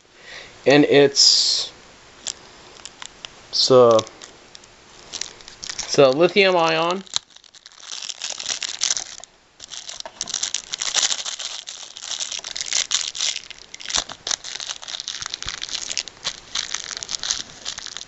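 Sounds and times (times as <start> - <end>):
packaging crinkling and tearing: 2.2 - 3.3, 3.9 - 18.0.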